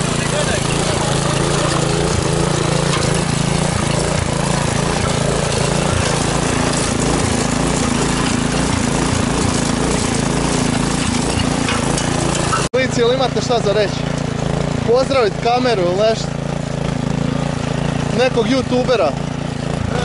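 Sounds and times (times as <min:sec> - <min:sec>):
tiller engine running under load: 0:00.0 - 0:20.0
tines churning dry soil: 0:00.0 - 0:20.0.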